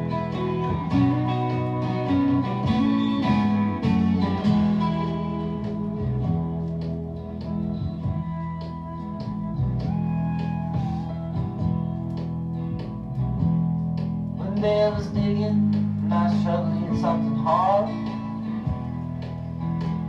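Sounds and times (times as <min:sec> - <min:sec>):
country-rock song on a turntable: 0:00.0 - 0:20.0.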